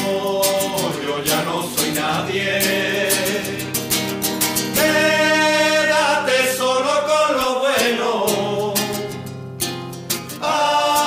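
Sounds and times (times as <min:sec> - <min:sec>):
voices singing wavering melody: 0:00.0 - 0:03.8, 0:04.8 - 0:09.2, 0:10.4 - 0:11.0
guitar accompaniment: 0:00.0 - 0:11.0.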